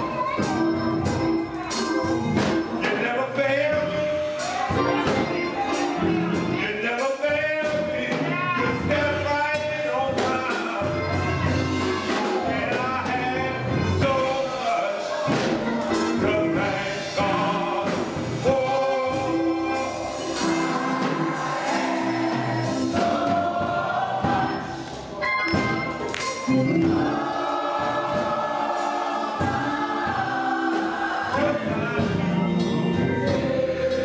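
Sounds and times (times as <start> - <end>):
gospel choir singing: 0.0 - 34.0
keyboard accompaniment: 0.0 - 34.0
rhythmic percussive hits: 0.0 - 34.0.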